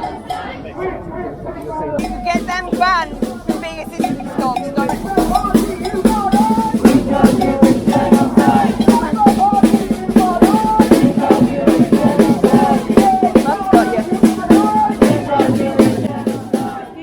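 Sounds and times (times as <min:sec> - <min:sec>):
music with busy drum beat: 0:02.0 - 0:17.0.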